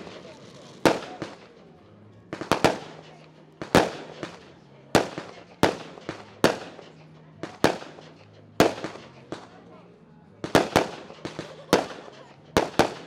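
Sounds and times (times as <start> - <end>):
firework bangs with echo and crackle: 0.0 - 1.6, 2.3 - 9.6, 10.4 - 13.0.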